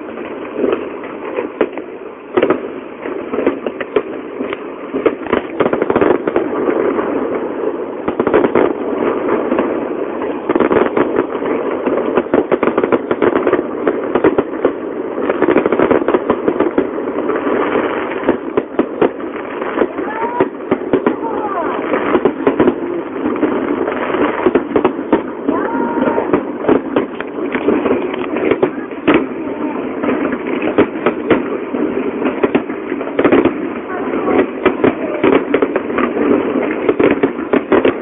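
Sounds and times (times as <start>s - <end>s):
fireworks bangs: 0.0s - 38.0s
fireworks crackling and popping: 0.0s - 38.0s.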